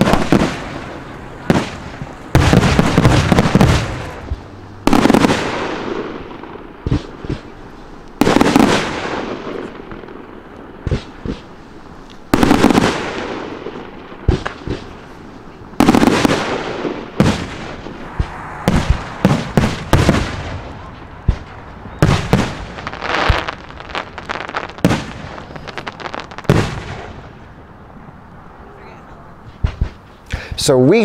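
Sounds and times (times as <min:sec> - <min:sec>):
fireworks bursting with echoing bangs: 0:00.0 - 0:27.5.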